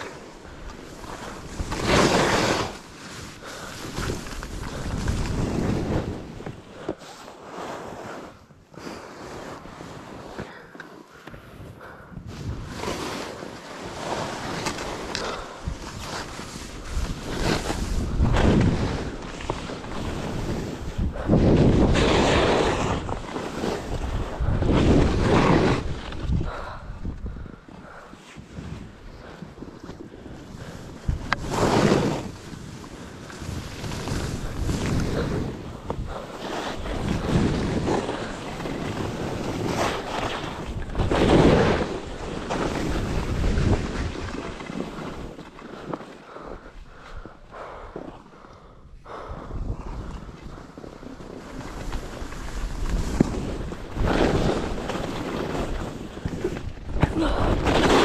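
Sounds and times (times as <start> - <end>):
wind over microphone: 0.0 - 7.1, 11.3 - 58.0
skis scraping through snow: 0.0 - 26.7, 28.2 - 47.1, 49.6 - 58.0.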